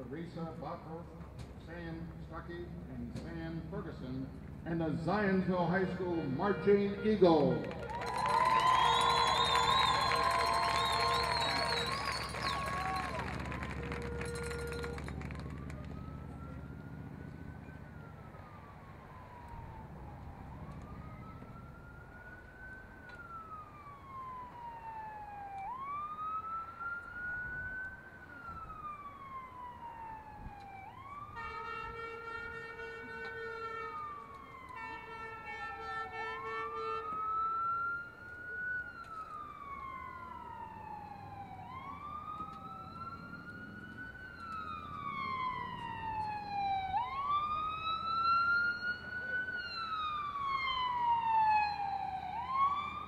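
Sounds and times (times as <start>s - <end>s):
siren wailing: 5.9s - 53.0s.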